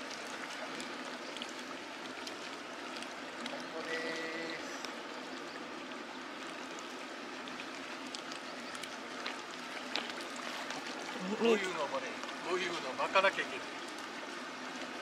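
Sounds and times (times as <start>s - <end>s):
faint splashes in a pool: 0.0s - 15.0s
flowing river water: 0.0s - 15.0s.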